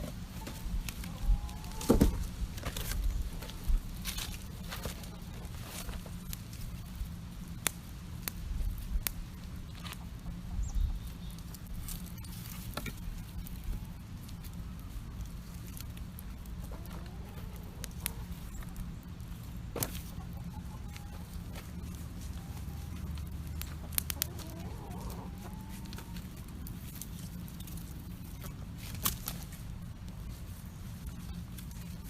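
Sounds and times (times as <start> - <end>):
chickens clucking: 0.0 - 6.8, 9.4 - 32.0
campfire crackling and popping: 0.0 - 32.0.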